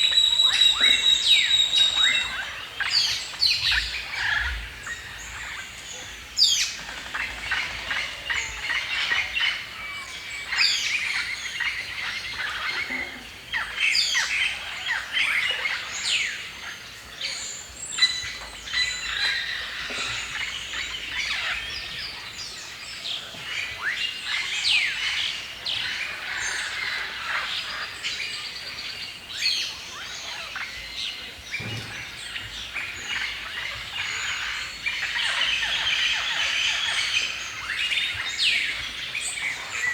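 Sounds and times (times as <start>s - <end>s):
birds chirping and singing: 0.0s - 16.4s, 17.3s - 39.9s.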